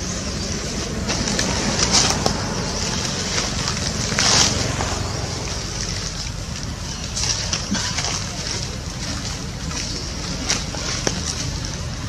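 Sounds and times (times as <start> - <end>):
leaves and twigs rustling: 0.0 - 12.0
wind rumbling on microphone: 0.0 - 12.0.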